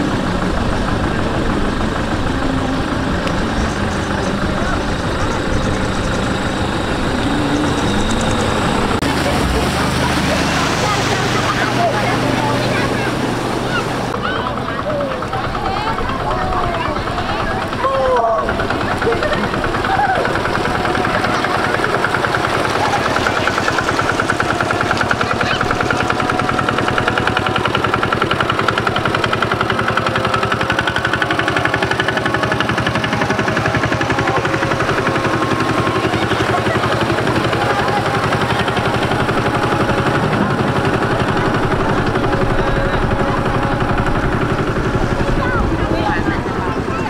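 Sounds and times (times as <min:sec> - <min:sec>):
small engine putt-putting: 0:00.0 - 0:47.0.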